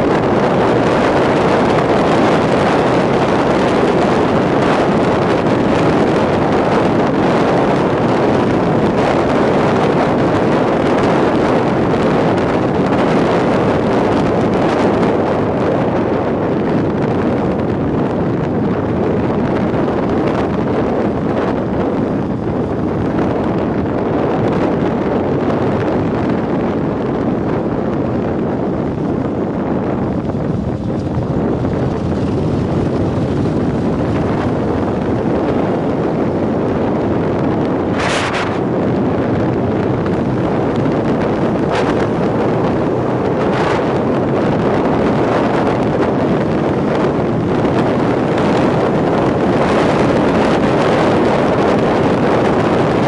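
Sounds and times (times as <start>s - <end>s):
motorcycle engine and road noise: 0.0s - 53.0s
wind rushing over microphone: 0.0s - 53.0s.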